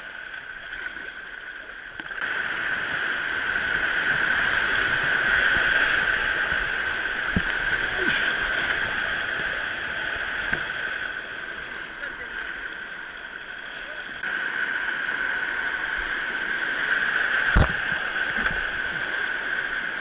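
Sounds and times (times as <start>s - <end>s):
stream rapids rushing: 2.2s - 20.0s.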